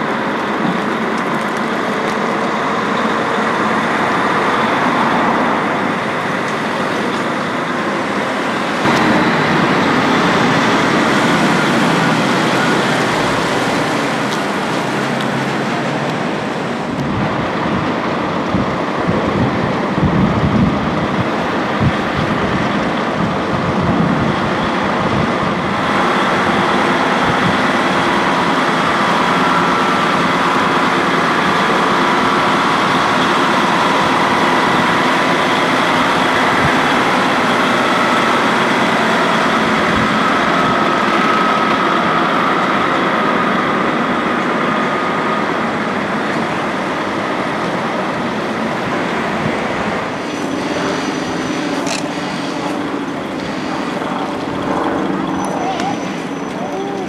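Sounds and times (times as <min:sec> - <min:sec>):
city street traffic: 0:00.0 - 0:57.0
diesel lorry driving by: 0:00.0 - 0:57.0.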